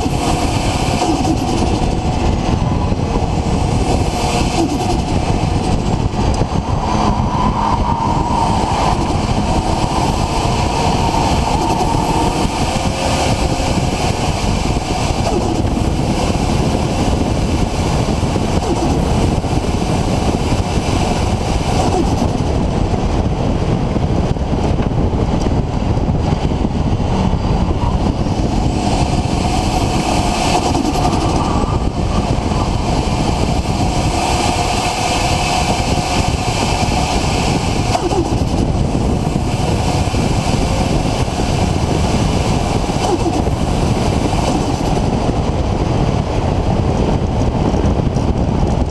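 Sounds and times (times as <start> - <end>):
turbo whines: 0.0 - 22.9, 25.5 - 46.1
car engine running loud: 0.0 - 48.9.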